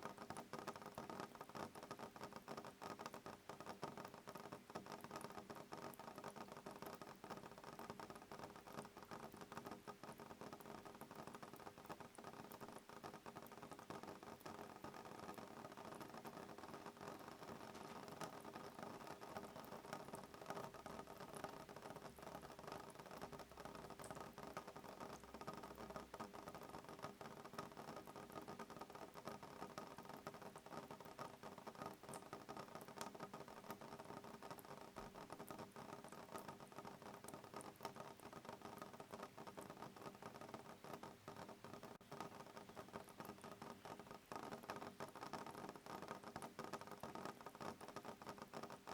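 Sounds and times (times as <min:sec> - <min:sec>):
rain tapping on a window: 0:00.0 - 0:48.9.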